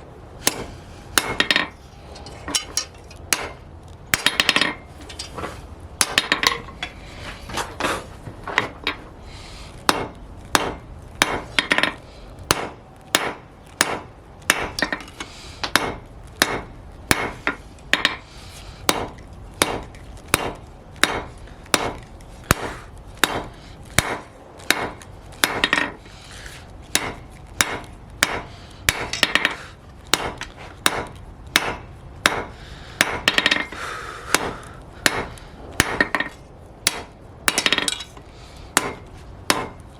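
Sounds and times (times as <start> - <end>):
hammer striking metal on anvil: 0.4 - 5.2, 6.0 - 7.0, 9.9 - 18.2, 18.9 - 26.0, 26.9 - 38.2, 38.8 - 39.8.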